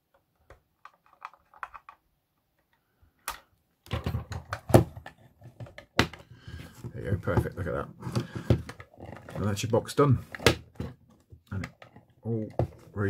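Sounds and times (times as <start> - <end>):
plastic box being handled: 0.1 - 2.7, 3.8 - 13.0.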